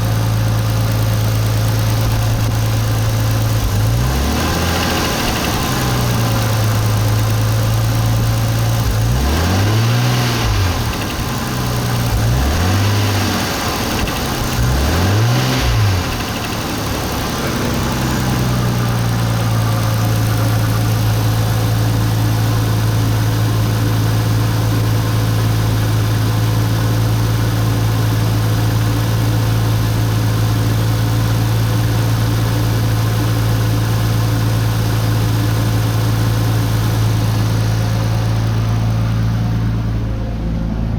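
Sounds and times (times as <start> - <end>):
car engine idling and revving: 0.0 - 40.9
engine knock: 0.0 - 40.9.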